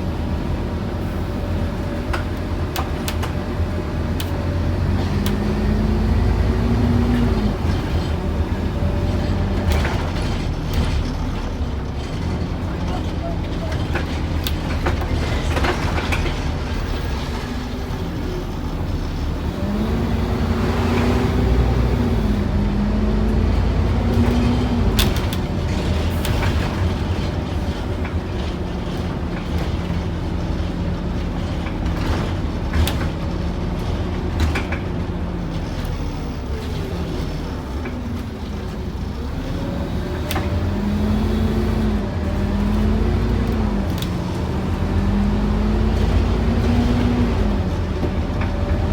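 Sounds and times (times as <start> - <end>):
bus diesel engine: 0.0 - 48.9.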